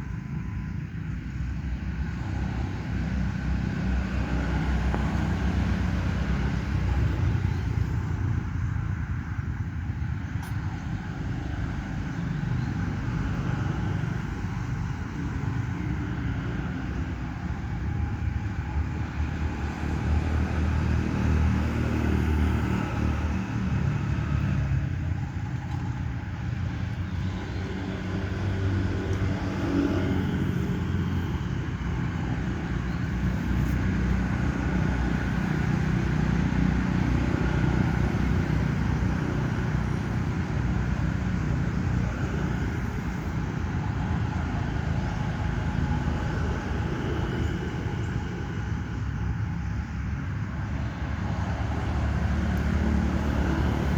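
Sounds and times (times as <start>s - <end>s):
traffic rumble: 0.0s - 53.9s
vehicle engines passing: 0.0s - 53.9s.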